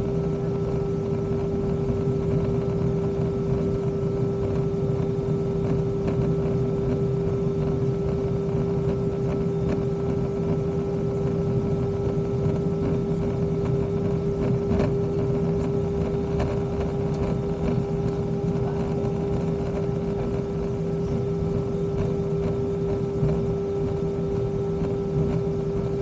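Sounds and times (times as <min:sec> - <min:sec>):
jet engines idling drone: 0:00.0 - 0:26.0.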